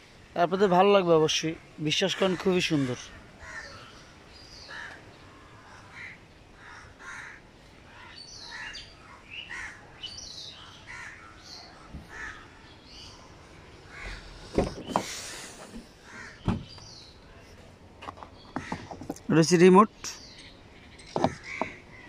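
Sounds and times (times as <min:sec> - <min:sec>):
faint background hiss: 0:00.0 - 0:22.0
birds calling: 0:00.4 - 0:22.0.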